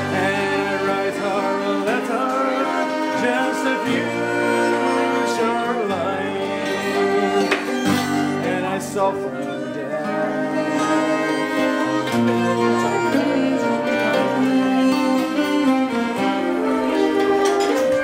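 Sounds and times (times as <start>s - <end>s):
fiddle melody: 0.0s - 18.0s
flute melody: 0.0s - 18.0s.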